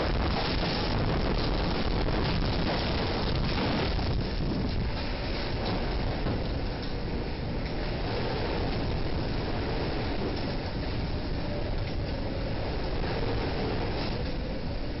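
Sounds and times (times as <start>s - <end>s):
tornado winds roaring: 0.0s - 15.0s.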